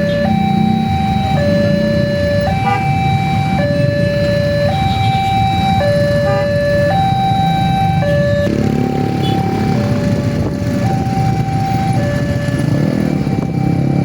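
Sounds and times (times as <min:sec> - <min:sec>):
two-tone level crossing siren: 0:00.0 - 0:14.0.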